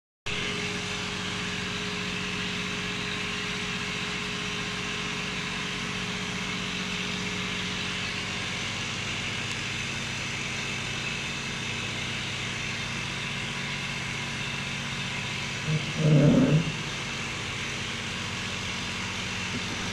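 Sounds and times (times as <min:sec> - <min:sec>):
small motor hum: 0:00.3 - 0:19.9.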